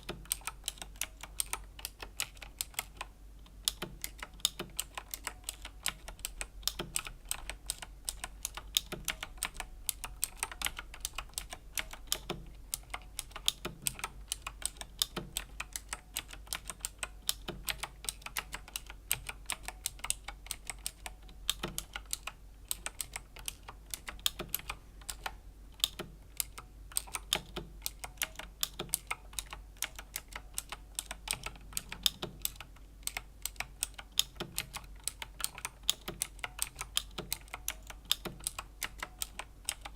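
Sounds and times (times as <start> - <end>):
clicky mechanical keyboard typing: 0.0 - 39.9.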